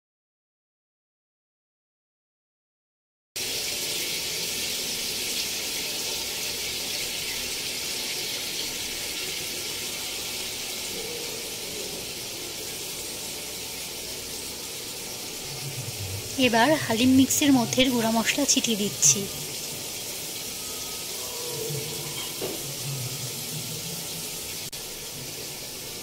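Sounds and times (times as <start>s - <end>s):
meat sizzling in hot oil: 3.4s - 26.0s.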